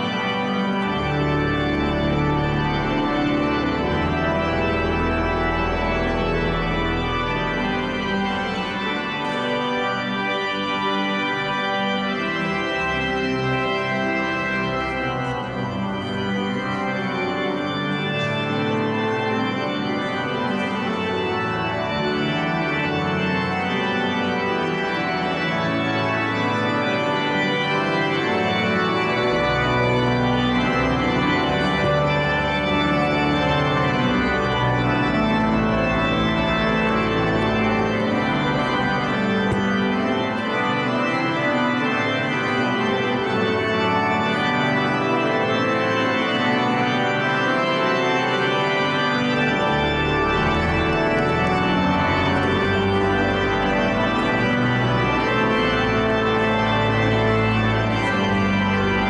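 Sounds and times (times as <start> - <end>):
deep organ pedal notes: 0.0 - 59.0
pipe organ chords: 0.0 - 59.0.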